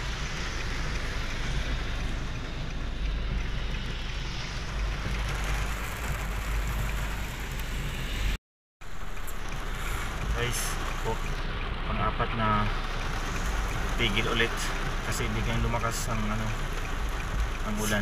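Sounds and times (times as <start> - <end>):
car low rumble: 0.0 - 18.0
heavy rain on a car: 0.0 - 18.0.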